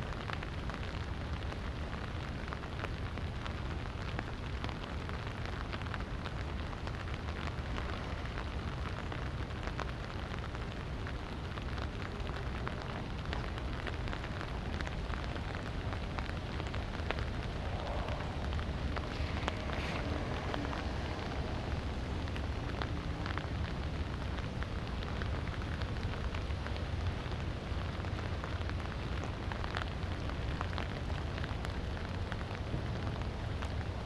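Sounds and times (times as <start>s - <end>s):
light rain pattering: 0.0s - 34.0s.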